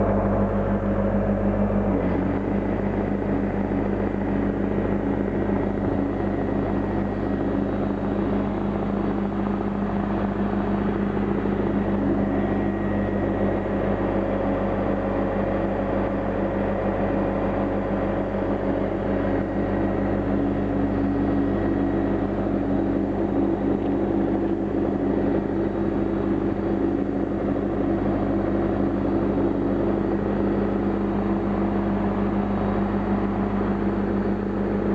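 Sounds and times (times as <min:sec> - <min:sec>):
air compressor running: 0:00.0 - 0:34.9.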